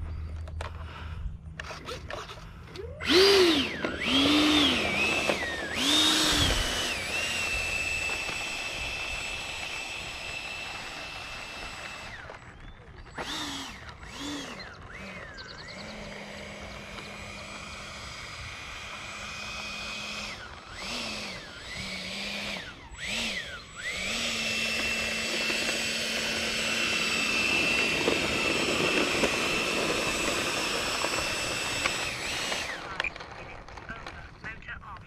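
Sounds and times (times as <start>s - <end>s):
electric ducted fan whining: 0.0s - 35.0s.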